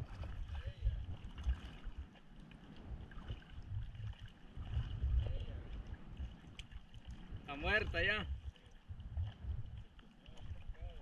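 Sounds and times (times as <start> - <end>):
water lapping around surfboard: 0.0 - 11.0
wind rumble on microphone: 0.0 - 11.0.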